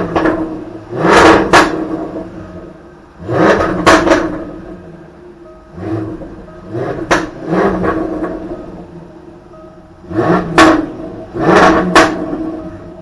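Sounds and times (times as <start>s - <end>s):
car engine revving: 0.0s - 13.0s
exhaust cracks: 0.0s - 13.0s.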